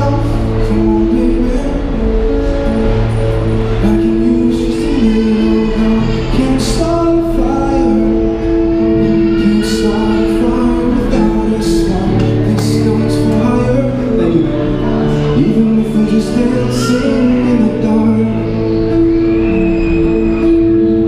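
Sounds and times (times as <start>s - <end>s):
man singing: 0.0s - 19.9s
acoustic guitar playing: 0.0s - 21.0s.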